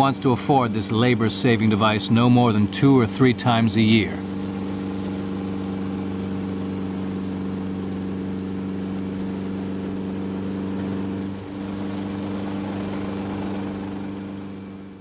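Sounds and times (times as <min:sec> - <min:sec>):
helicopter engine and rotor droning: 0:00.0 - 0:15.0.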